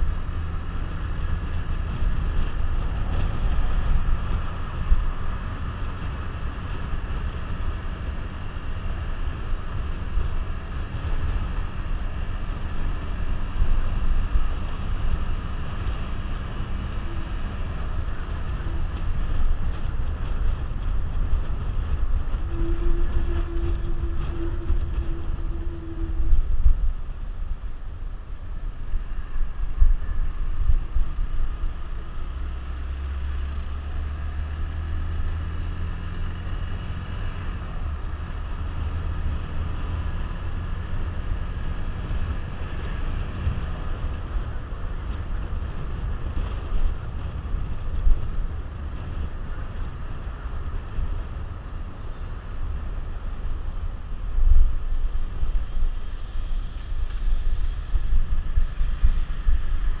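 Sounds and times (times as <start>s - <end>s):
motorcycle engine rumbling: 0.0s - 60.0s
wind buffeting microphone: 0.0s - 60.0s.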